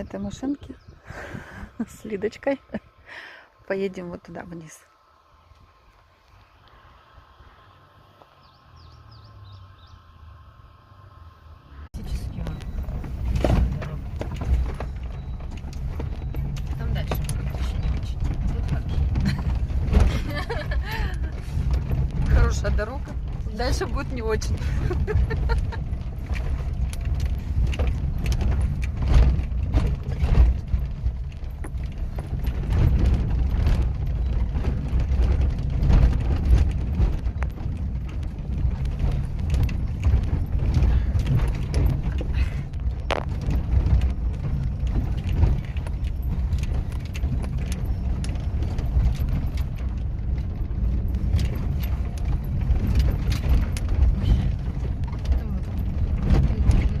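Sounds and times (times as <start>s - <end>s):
vehicle rumbling on dirt road: 0.0s - 57.0s.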